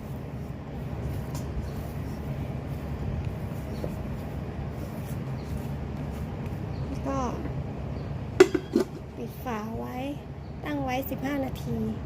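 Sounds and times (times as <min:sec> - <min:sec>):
machine hum and rumble: 0:00.0 - 0:12.0.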